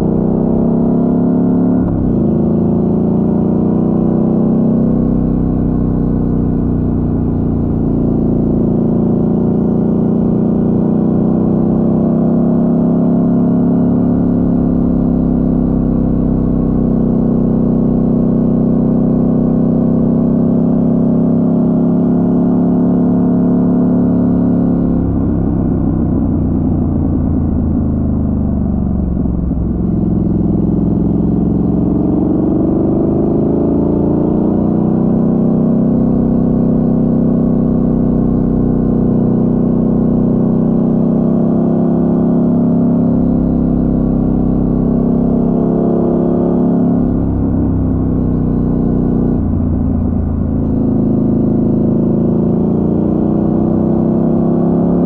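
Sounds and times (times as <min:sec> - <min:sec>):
motorcycle engine revving: 0:10.9 - 0:55.0.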